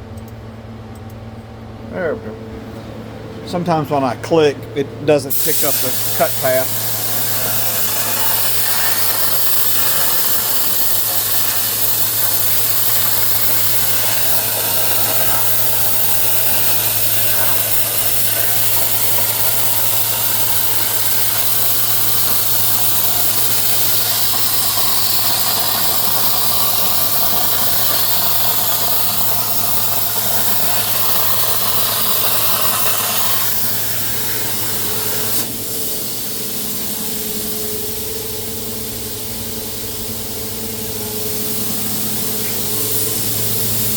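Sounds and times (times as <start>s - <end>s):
fan humming: 0.0s - 43.9s
plasma torch hissing: 5.3s - 43.9s.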